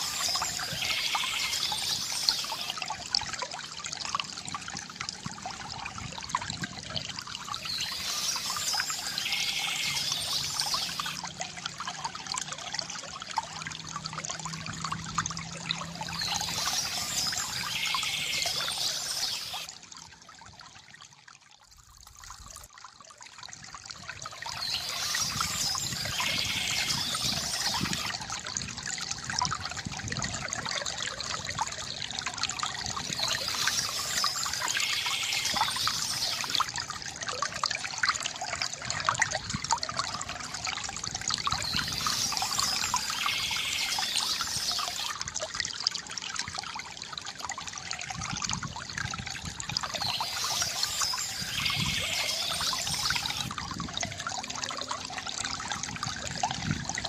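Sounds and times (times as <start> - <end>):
water trickling from fountain: 0.0 - 57.0.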